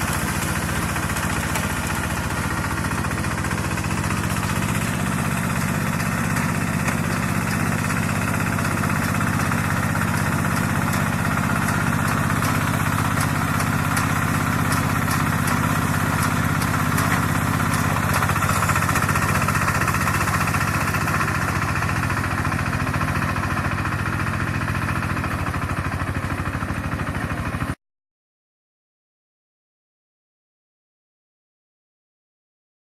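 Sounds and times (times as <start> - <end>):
harvester engine running: 0.0 - 27.8.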